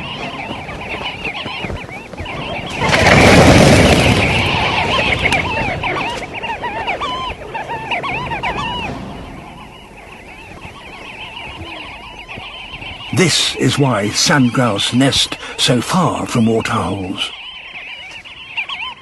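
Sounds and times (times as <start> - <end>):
birds chirping calls: 0.0 - 19.0.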